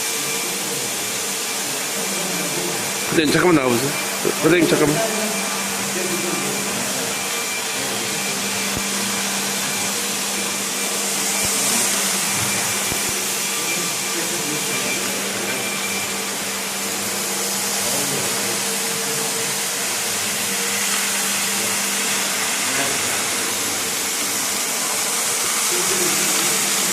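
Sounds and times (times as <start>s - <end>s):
floor scrubber suction motor whir: 0.0s - 26.9s.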